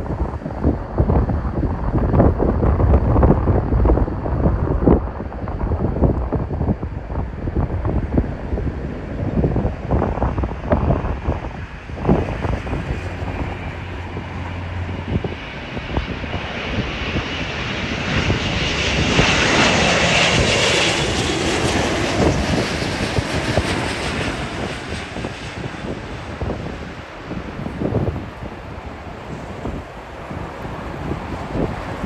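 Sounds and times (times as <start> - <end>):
airliner engines passing: 0.0 - 32.0
wind buffeting microphone: 0.0 - 32.0.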